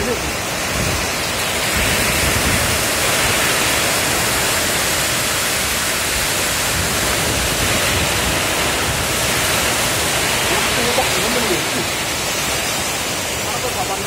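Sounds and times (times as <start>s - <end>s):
flood torrent roaring: 0.0s - 14.0s
heavy rain: 0.0s - 14.0s.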